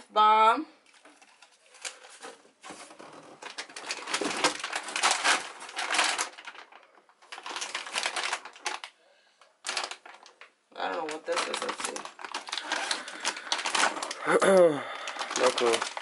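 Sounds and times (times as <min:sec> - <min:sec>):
plastic packaging crinkling: 0:00.8 - 0:09.0, 0:09.6 - 0:16.0.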